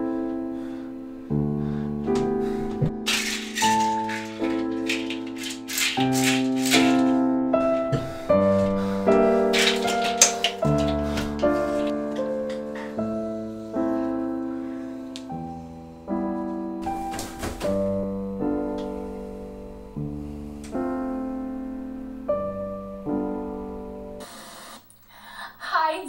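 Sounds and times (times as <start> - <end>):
slow piano chords: 0.0 - 24.2.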